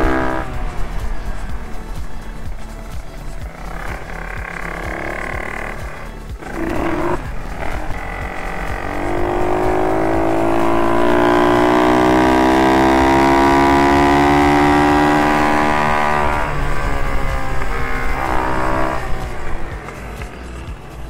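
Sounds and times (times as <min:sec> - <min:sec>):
minibike engine revving: 0:00.0 - 0:21.0.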